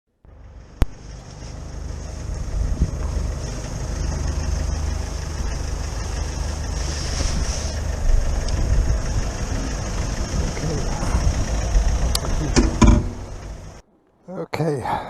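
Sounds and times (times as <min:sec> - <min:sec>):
motorcycle engine rumbling: 0:00.2 - 0:14.3.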